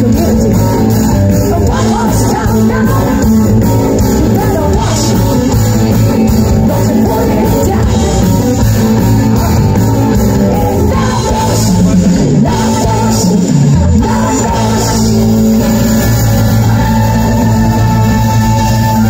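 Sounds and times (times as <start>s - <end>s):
woman singing: 0.0s - 15.8s
live rock band playing: 0.0s - 19.0s.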